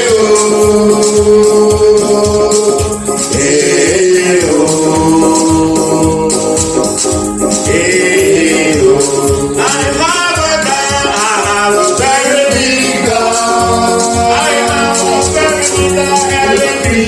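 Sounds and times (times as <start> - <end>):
men singing gospel song: 0.0 - 17.0
steady beat: 0.0 - 17.0
tambourine or shaker: 0.0 - 17.0.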